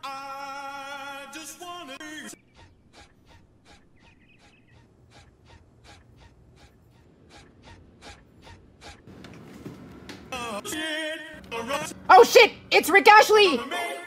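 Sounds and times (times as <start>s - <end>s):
low room hum: 1.6s - 14.0s.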